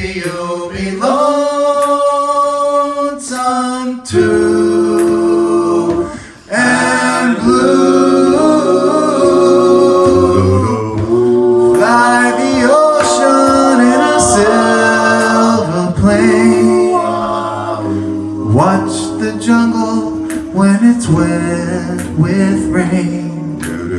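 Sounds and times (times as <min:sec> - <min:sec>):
male group singing in harmony: 0:00.0 - 0:23.9.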